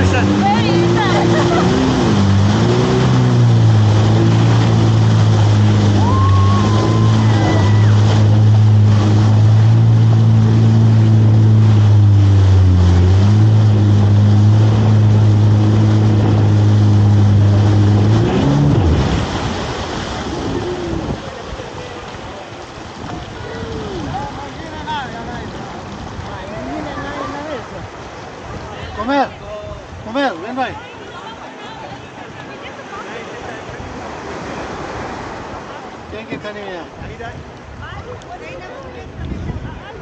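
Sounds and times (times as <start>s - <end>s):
jet ski engine: 0.0s - 40.0s
water and wind noise: 0.0s - 40.0s.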